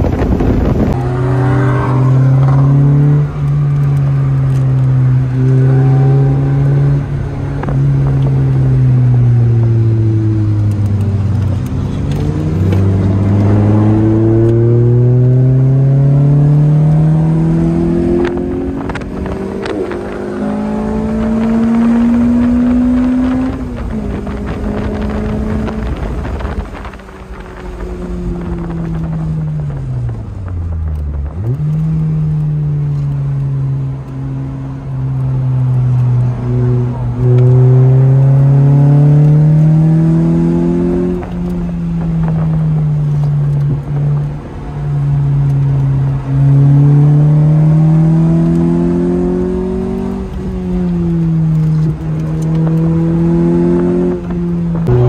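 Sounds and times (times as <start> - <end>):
sports car engine accelerating: 0.0 - 55.0.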